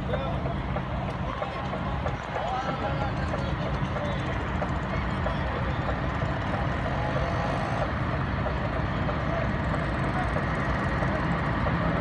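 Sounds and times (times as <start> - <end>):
faint voices: 0.0 - 12.0
heavy trucks idling: 0.0 - 12.0.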